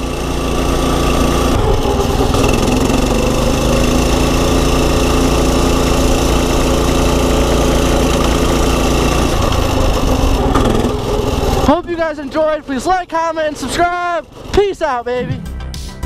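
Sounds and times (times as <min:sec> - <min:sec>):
motorbike engine running steadily: 0:00.0 - 0:15.2.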